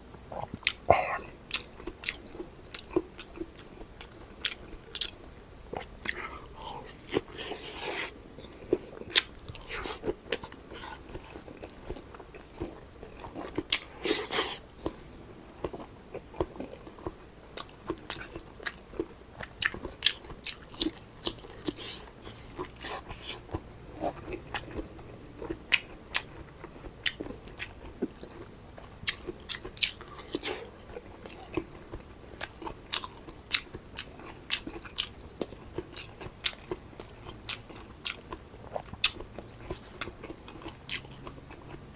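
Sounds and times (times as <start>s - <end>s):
person chewing crunchy food: 0.3s - 41.9s.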